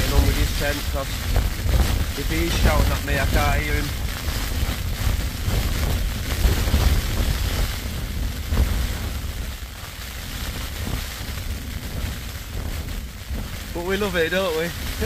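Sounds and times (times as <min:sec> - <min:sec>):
deep wind rumble: 0:00.0 - 0:15.0
wind gusts shaking tent: 0:00.0 - 0:15.0.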